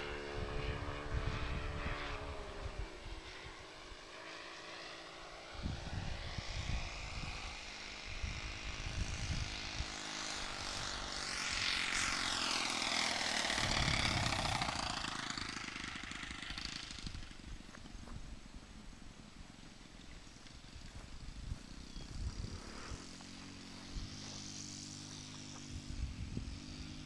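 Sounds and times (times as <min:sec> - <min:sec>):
model airplane engine flying by: 0:00.0 - 0:27.0.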